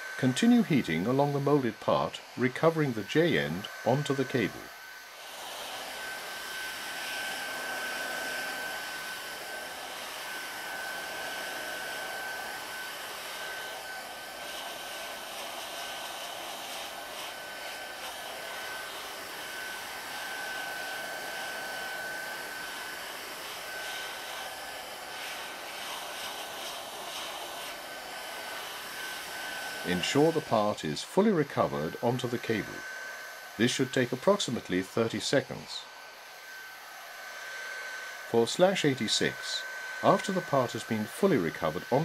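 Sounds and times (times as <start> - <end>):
heat gun blowing: 0.0 - 42.0.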